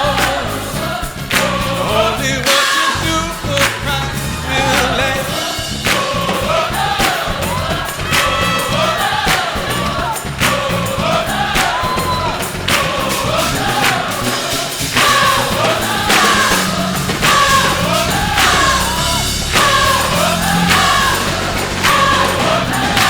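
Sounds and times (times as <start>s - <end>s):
band accompaniment with steady beat: 0.0s - 23.0s
gospel choir singing: 0.0s - 23.0s.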